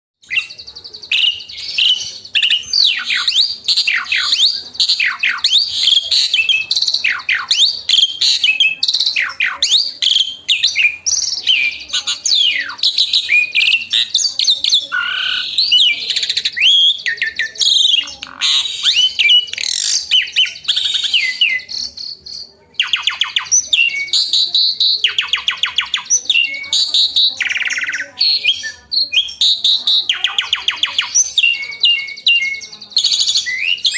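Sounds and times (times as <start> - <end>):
starling singing: 0.2 - 33.9.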